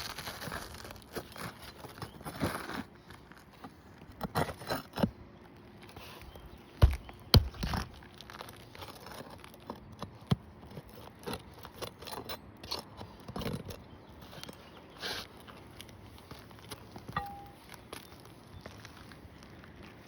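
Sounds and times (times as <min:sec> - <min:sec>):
roof shingles crinkling and scraping: 0:00.0 - 0:20.0.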